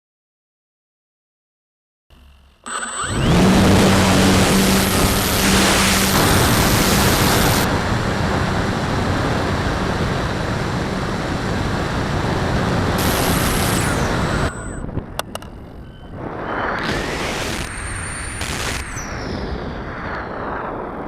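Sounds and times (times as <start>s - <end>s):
wind rushing over camera: 3.2s - 21.0s.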